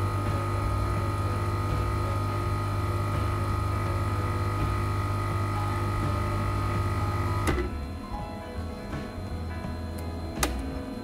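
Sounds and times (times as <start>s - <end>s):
coffee machine pump humming: 0.0s - 11.0s.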